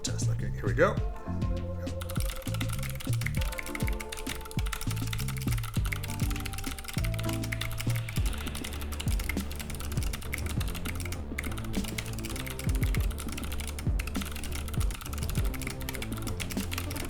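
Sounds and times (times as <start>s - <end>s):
typing on mechanical keyboard: 1.9s - 17.0s.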